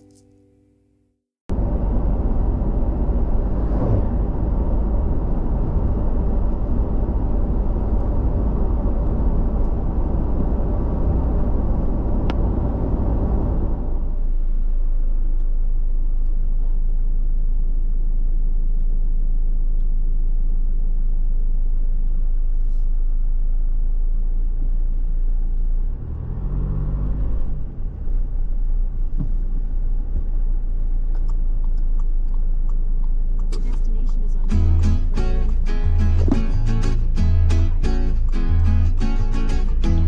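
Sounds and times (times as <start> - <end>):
car engine and tyres rumbling: 1.5 - 40.0.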